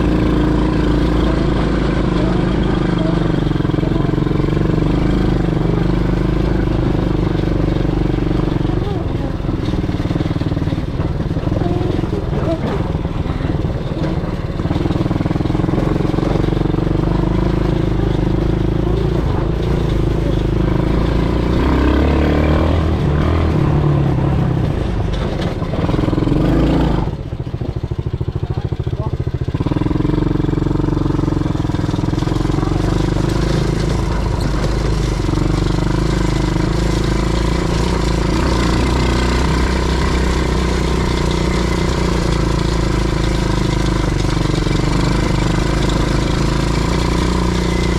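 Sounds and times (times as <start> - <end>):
quad bike engine running: 0.0 - 47.9.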